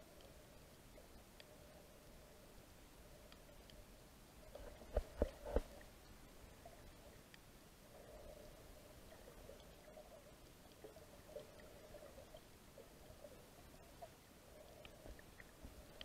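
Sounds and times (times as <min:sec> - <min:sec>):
muffled underwater ambience: 0:00.0 - 0:16.0.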